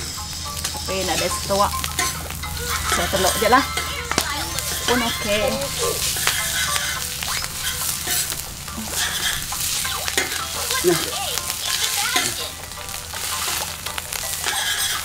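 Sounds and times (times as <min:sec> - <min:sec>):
noodles sizzling in a pan: 0:00.0 - 0:15.0
utensil scraping a pan: 0:00.0 - 0:15.0.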